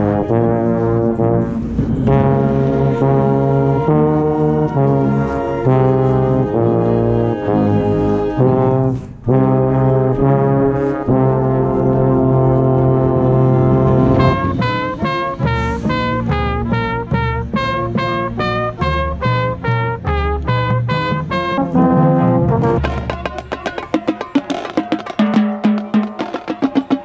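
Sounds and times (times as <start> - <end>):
marching band brass chords: 0.0 - 27.0.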